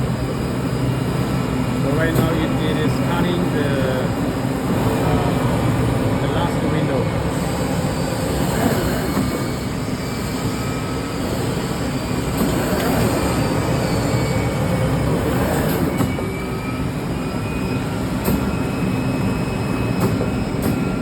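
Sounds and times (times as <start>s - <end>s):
cutting machine rumble and hiss: 0.0s - 18.7s
motor whines sliding in pitch: 0.0s - 21.0s.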